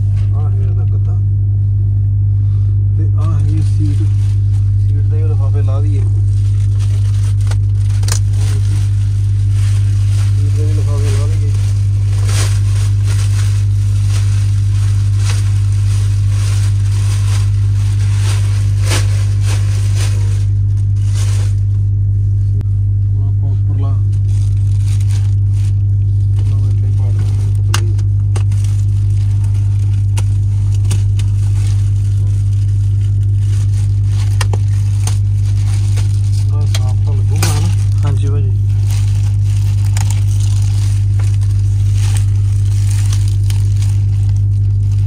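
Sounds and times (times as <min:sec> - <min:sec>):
loud low hum: 0:00.0 - 0:45.0
plastic wrap crinkling: 0:03.2 - 0:21.8, 0:24.0 - 0:45.0.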